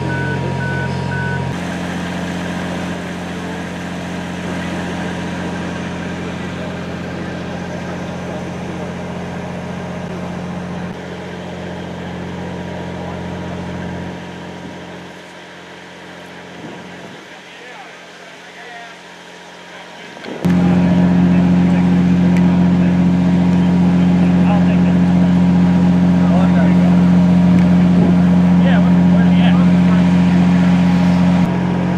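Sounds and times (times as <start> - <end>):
diesel locomotive idling: 0.0 - 31.9.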